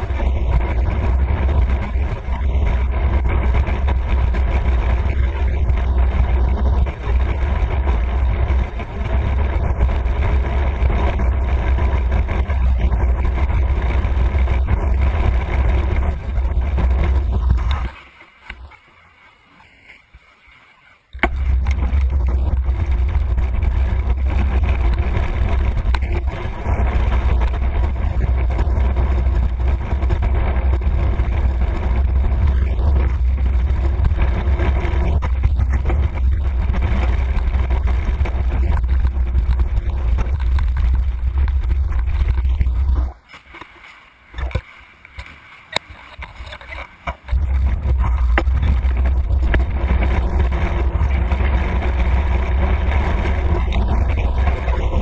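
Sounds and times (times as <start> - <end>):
wind buffeting microphone: 0.0 - 18.7, 21.1 - 43.2, 44.3 - 55.0
road noise: 0.0 - 19.4, 21.1 - 55.0.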